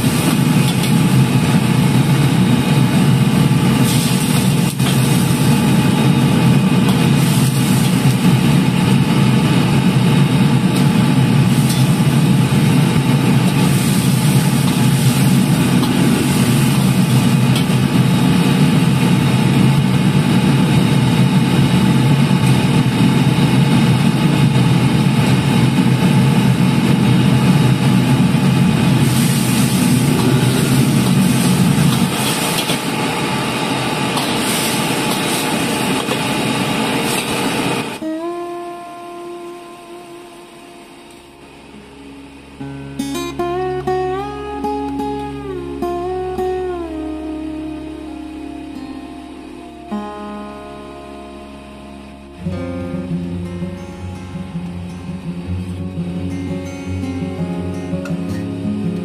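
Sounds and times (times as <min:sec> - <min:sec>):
gas burner and extractor roar: 0:00.0 - 0:59.0.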